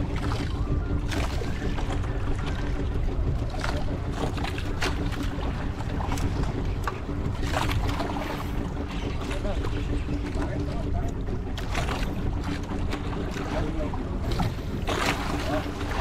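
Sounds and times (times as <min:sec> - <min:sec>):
boat engine humming: 0:00.0 - 0:16.0
water splashing: 0:00.0 - 0:16.0.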